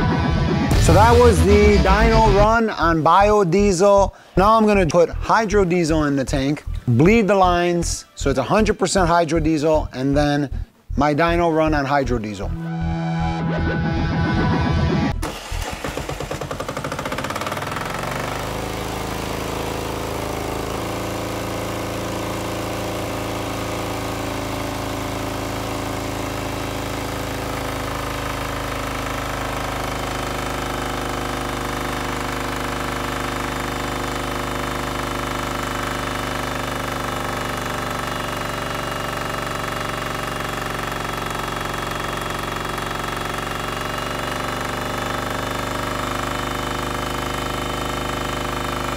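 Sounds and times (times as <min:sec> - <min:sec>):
diesel engine starting and running: 0:00.0 - 0:48.9.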